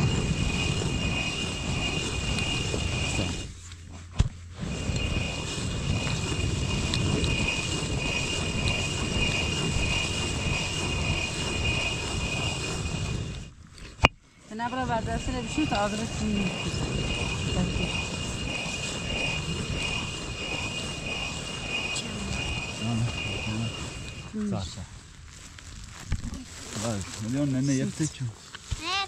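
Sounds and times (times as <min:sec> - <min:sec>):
millstone grinding with whine: 0:00.0 - 0:24.7.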